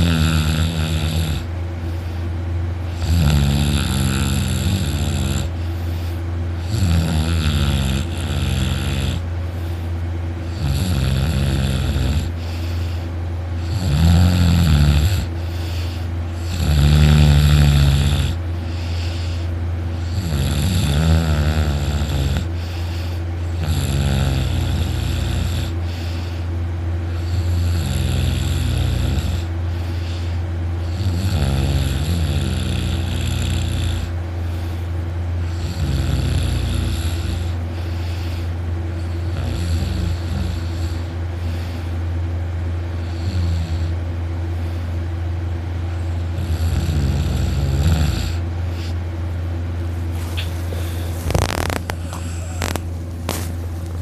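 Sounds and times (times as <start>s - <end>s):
man snoring loudly: 0.0s - 1.5s, 2.9s - 9.3s, 10.4s - 13.0s, 13.6s - 26.5s, 27.1s - 34.8s, 35.4s - 41.9s, 43.0s - 44.0s, 46.1s - 49.0s, 50.4s - 53.5s.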